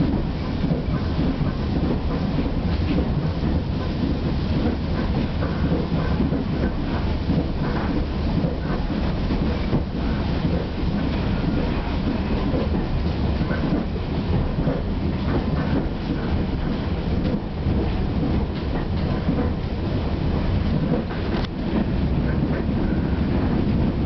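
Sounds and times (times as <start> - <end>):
train carriage rumbling on track: 0.0 - 24.0.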